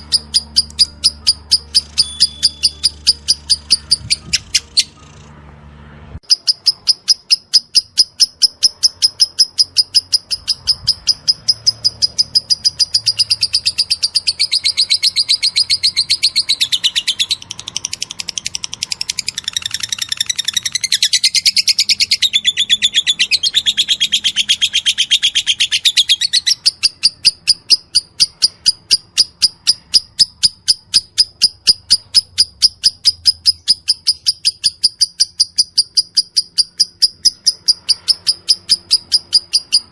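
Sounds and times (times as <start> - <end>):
lovebird ticking chirps: 0.0 - 5.3, 6.2 - 39.9.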